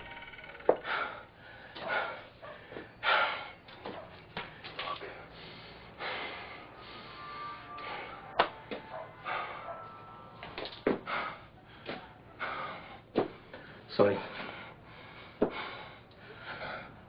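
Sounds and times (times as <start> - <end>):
man breathing hard: 0.7 - 3.6, 4.4 - 10.2, 10.8 - 17.0.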